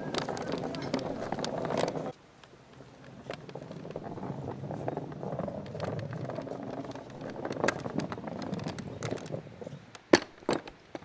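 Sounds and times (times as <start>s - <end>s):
wooden barrow rolling over cobbles: 0.0s - 11.0s.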